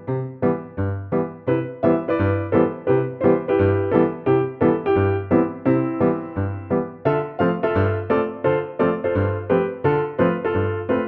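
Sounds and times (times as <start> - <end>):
bouncy piano chords: 0.0 - 11.0.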